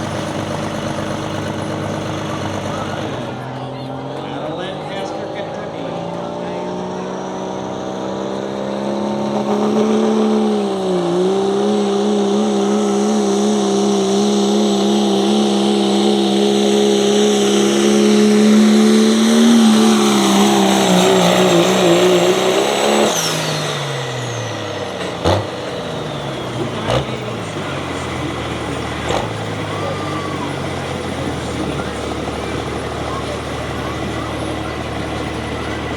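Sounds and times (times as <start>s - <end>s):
engine at full throttle: 0.0s - 35.9s.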